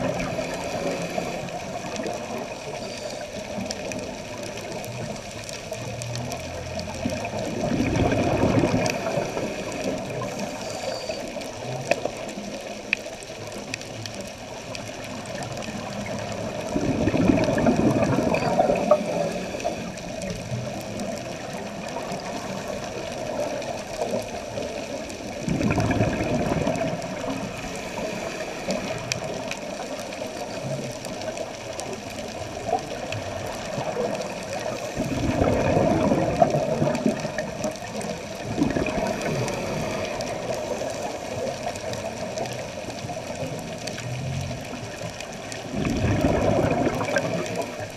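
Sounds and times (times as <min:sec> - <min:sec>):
underwater hiss: 0:00.0 - 0:04.7, 0:07.2 - 0:12.1, 0:14.8 - 0:30.6, 0:31.3 - 0:47.9
exhaled bubbles gushing: 0:00.0 - 0:47.9.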